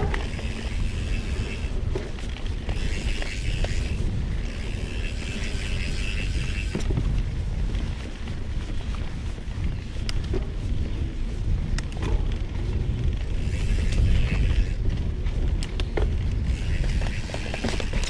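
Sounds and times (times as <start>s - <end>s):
bike chain rattling and clicking: 0.0s - 18.0s
bike tyres on dirt: 0.0s - 18.0s
wind on microphone: 0.0s - 18.0s.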